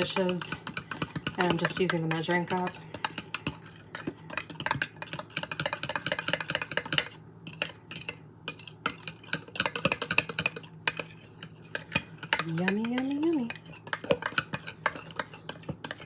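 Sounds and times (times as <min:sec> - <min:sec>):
steady low hum: 0:00.0 - 0:16.0
utensil clinking and scraping a cup: 0:00.0 - 0:16.0.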